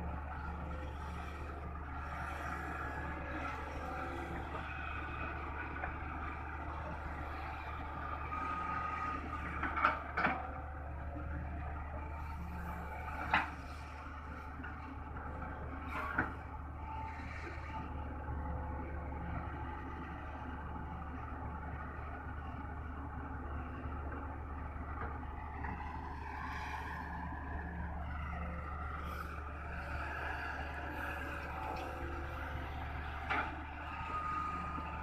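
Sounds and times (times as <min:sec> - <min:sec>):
diesel machinery running: 0:00.0 - 0:35.0.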